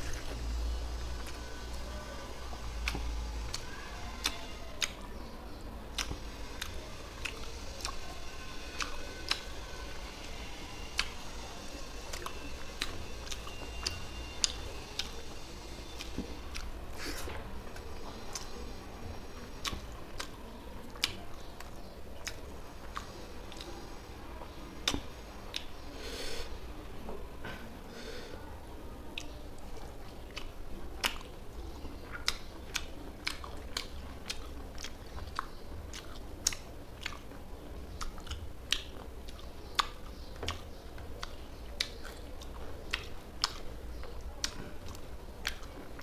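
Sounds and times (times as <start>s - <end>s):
low steady hum: 0.0s - 46.0s
chewing with mouth clicks: 1.0s - 5.3s, 5.9s - 25.9s, 29.1s - 46.0s.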